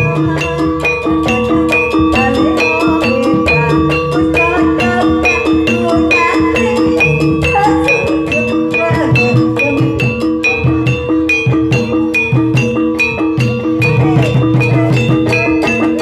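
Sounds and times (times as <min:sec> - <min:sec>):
gamelan metal keyed instruments: 0:00.0 - 0:16.0
low drum: 0:00.0 - 0:16.0.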